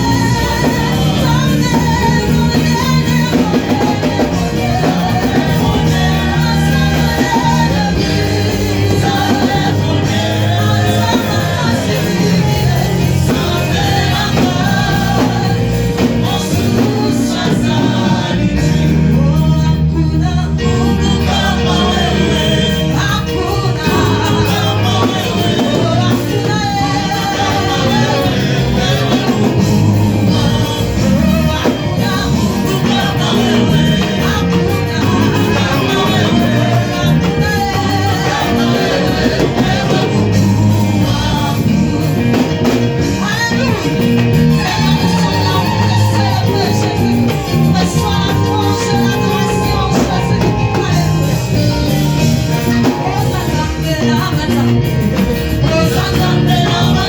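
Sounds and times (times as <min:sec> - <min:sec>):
instrumental backing with bass: 0:00.0 - 0:57.0
worship singing: 0:00.0 - 0:57.0.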